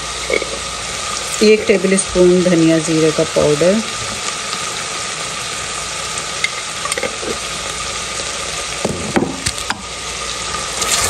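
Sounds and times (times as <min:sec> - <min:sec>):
oil and spices sizzling in a pot: 0:00.0 - 0:11.0.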